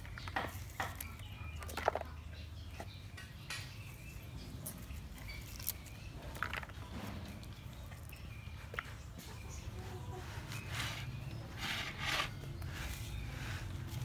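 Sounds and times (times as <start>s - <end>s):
vegetables on wooden board: 0.0s - 14.0s.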